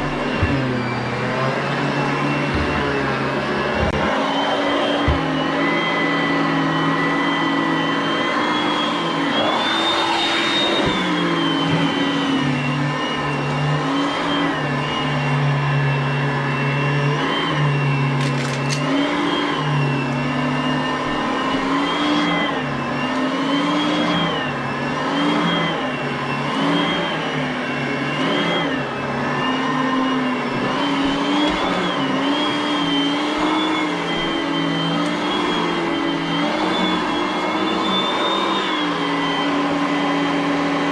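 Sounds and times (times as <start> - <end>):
vacuum cleaner motor whine: 0.0 - 40.9.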